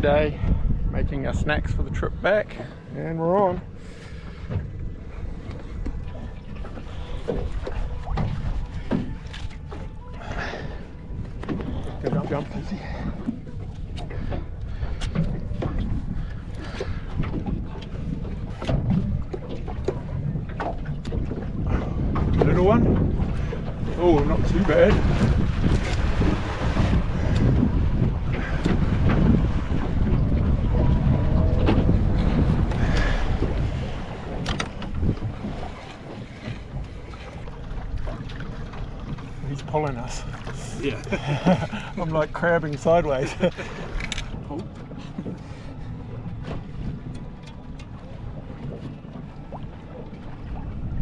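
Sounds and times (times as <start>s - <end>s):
water slapping boat hull: 0.0s - 51.0s
wind buffeting microphone: 0.0s - 51.0s
water splashes: 1.7s - 51.0s.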